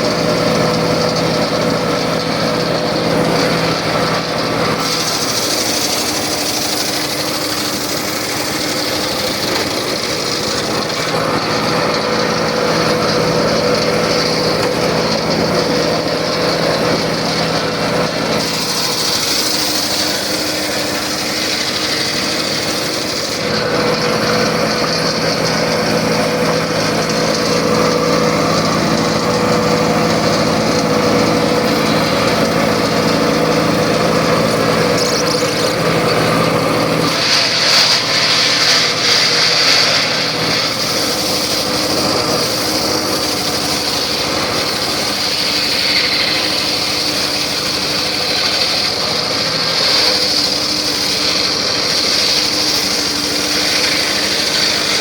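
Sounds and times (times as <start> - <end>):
circular saw running: 0.0 - 55.0.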